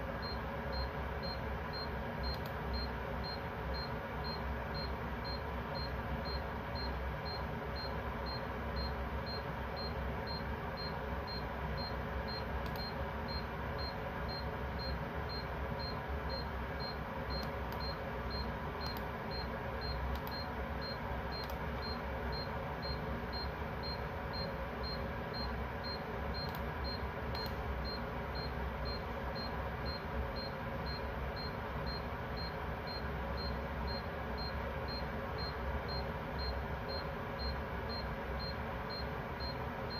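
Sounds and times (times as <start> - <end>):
electronic alarm beeping: 0.2 - 39.9.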